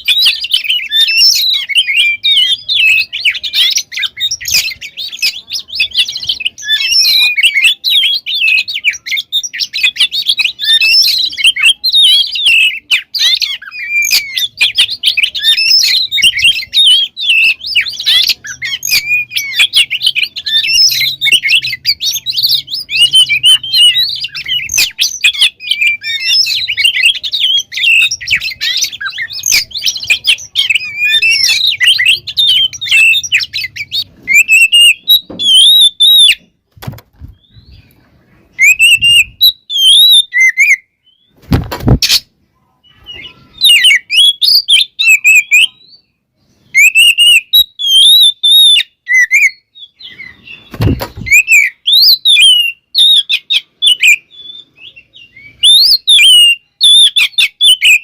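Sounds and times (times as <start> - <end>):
bird singing: 0.0 - 36.6, 37.2 - 41.4, 42.0 - 58.0.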